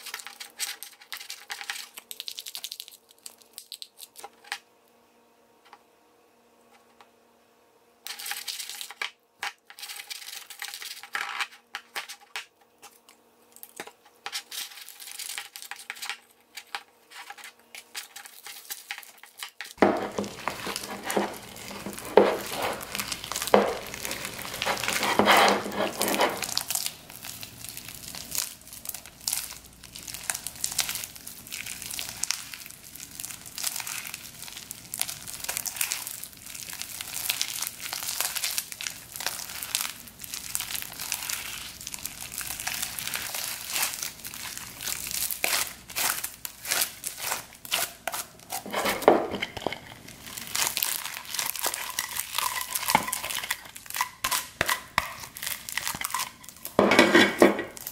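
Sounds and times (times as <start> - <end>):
slime crackling and popping: 0.0 - 4.3, 13.5 - 48.7, 50.0 - 56.8, 57.6 - 57.9.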